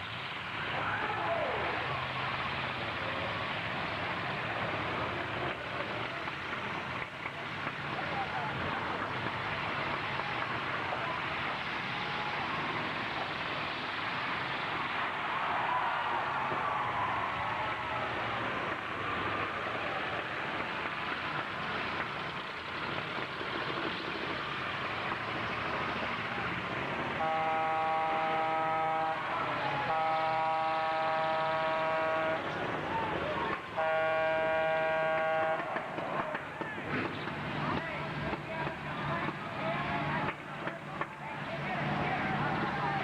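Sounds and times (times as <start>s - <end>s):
truck engines running: 0.0s - 43.0s.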